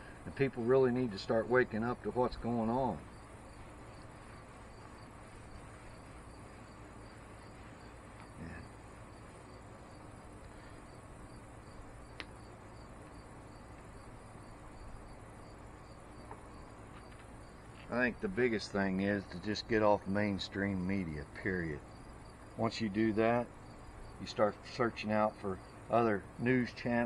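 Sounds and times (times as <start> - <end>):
background hiss: 0.0 - 27.0
insects chirping: 0.0 - 27.0.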